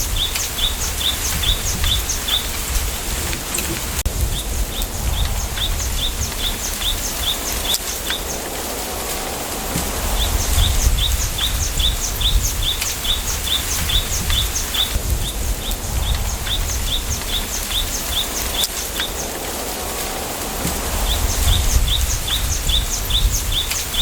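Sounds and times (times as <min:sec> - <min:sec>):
small bird chirping: 0:00.0 - 0:03.2, 0:04.3 - 0:08.6, 0:09.9 - 0:19.3, 0:21.0 - 0:24.0
low wind rumble: 0:00.0 - 0:24.0.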